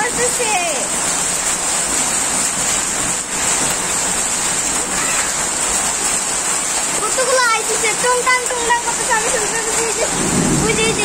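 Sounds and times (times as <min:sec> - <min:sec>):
heavy rain and hail on concrete: 0:00.0 - 0:11.0.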